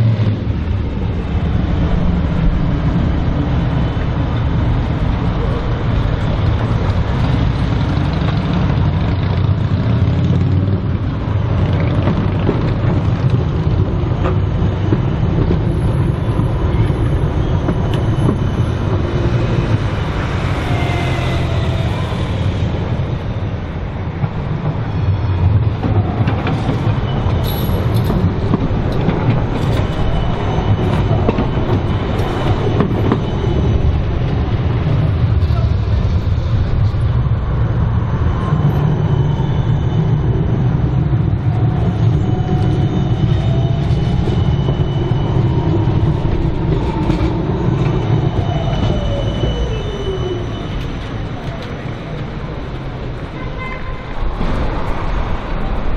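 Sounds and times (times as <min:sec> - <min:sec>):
faint tram whine: 0:00.0 - 0:55.9
traffic noise: 0:00.0 - 0:55.9
tram rumbling past: 0:00.0 - 0:55.9.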